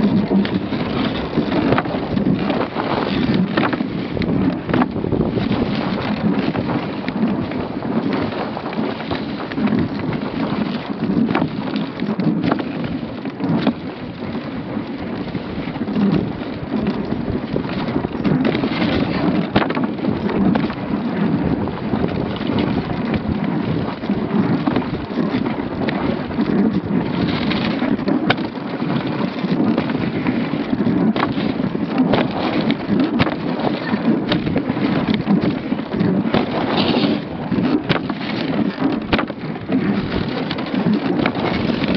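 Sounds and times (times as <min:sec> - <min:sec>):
sled frame knocking and rattling: 0:00.0 - 0:41.9
sled runners scraping over snow: 0:00.0 - 0:41.9.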